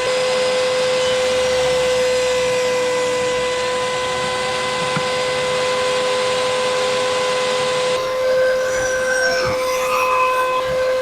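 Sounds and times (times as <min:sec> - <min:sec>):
table saw whining: 0:00.0 - 0:11.0.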